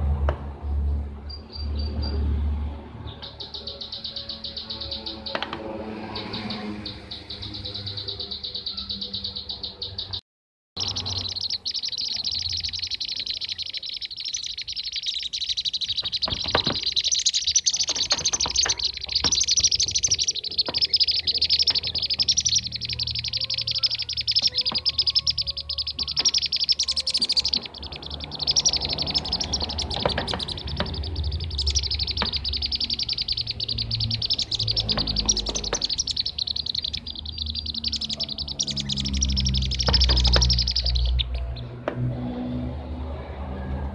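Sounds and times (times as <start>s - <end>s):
birds calling in rolling trills: 1.3s - 10.2s, 10.8s - 41.8s.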